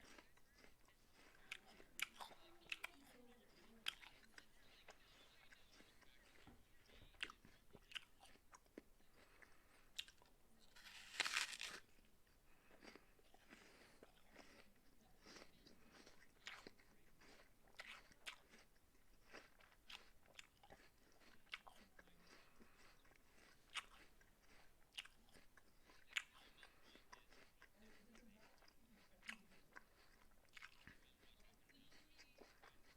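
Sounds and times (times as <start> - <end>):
apple bite crunch: 0.0 - 32.9
chewing crunches and clicks: 0.0 - 32.9.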